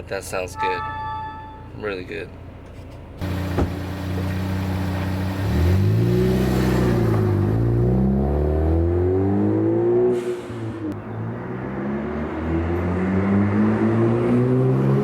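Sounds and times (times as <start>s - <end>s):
car engine idling and revving: 2.3s - 15.0s.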